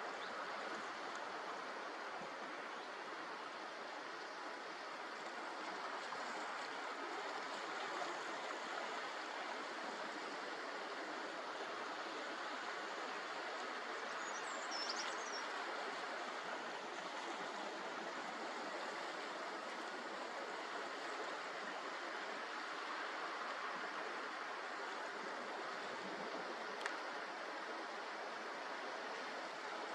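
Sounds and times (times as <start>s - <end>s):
sea water rushing along shore: 0.0s - 29.9s.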